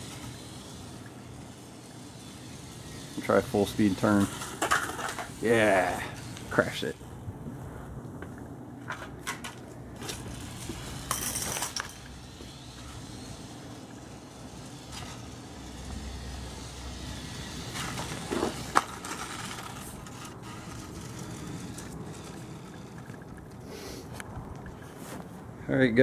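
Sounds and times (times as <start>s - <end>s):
toy truck driving on concrete: 0.0s - 7.0s, 8.3s - 25.4s.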